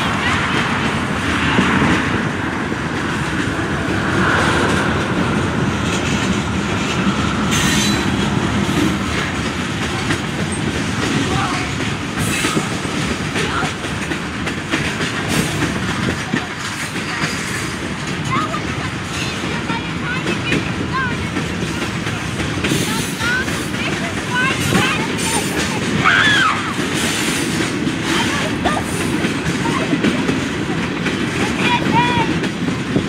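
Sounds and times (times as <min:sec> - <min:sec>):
train wheels clattering over rail joints: 0:00.0 - 0:33.0.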